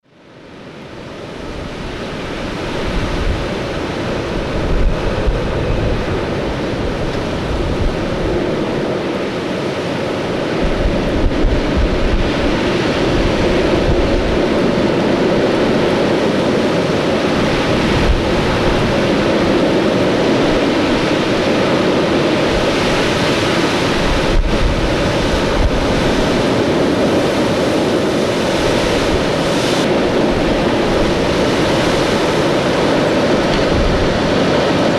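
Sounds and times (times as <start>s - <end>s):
storm wind blowing hard: 0.0s - 34.9s
wind gusts buffeting microphone: 0.3s - 34.9s.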